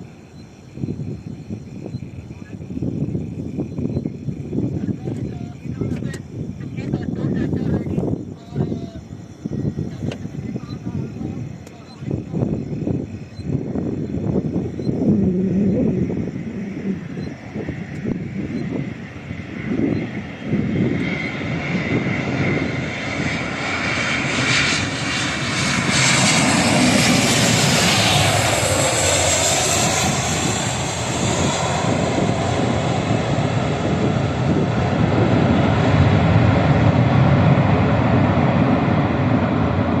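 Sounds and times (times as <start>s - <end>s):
airliner jet engines roaring: 0.0s - 40.0s
high whine: 0.0s - 40.0s.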